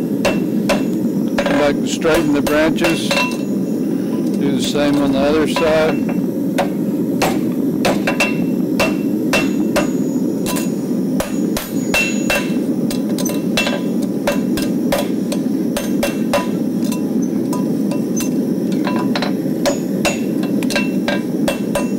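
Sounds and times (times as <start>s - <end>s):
steady low rush: 0.0s - 21.9s
hammer striking horseshoe on anvil: 0.2s - 1.5s, 2.1s - 3.5s, 4.6s - 21.9s.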